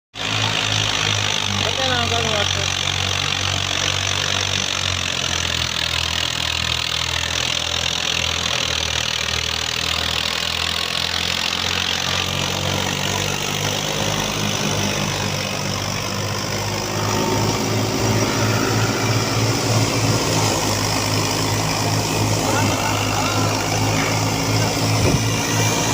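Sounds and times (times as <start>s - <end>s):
tractor diesel engine throbbing: 0.2s - 25.9s.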